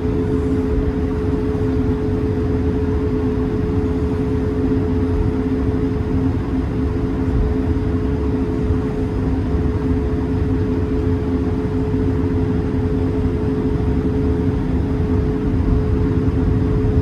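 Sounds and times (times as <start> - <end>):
jet engines two-note hum: 0.0 - 17.0
low cabin rumble: 0.0 - 17.0.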